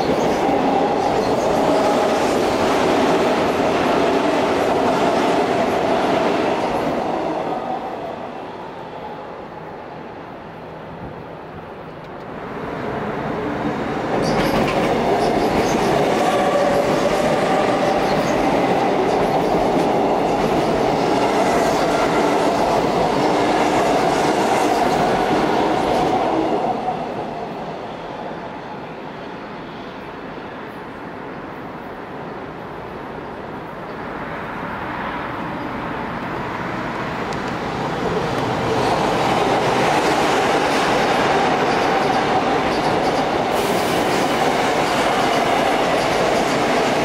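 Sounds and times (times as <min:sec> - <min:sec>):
electric train passing on bridge: 0:00.0 - 0:47.0.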